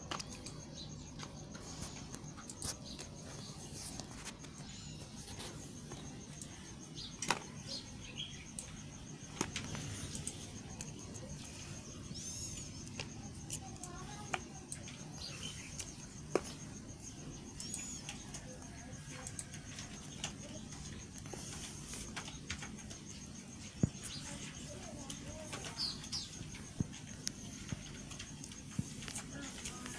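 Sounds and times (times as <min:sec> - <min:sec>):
birds chirping faintly: 0:00.0 - 0:29.9.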